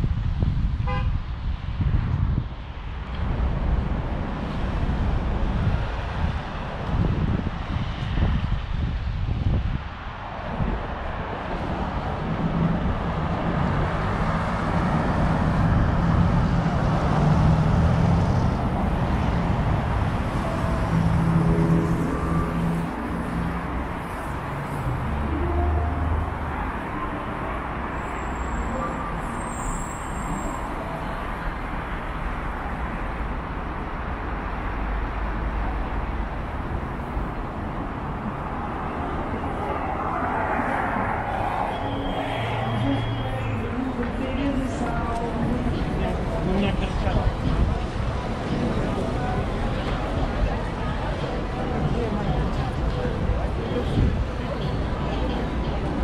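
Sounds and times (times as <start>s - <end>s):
vehicles driving past: 0.0s - 56.0s.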